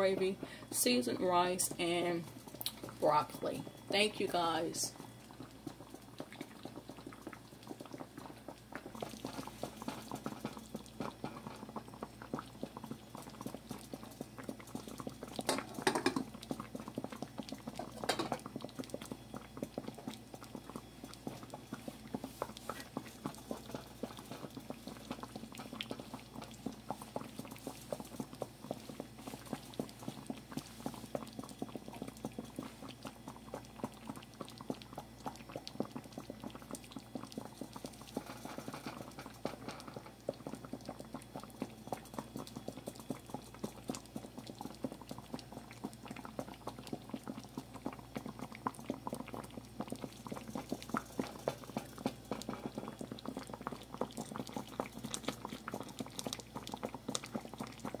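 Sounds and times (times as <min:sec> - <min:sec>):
gravy simmering and popping: 0:00.0 - 0:58.0.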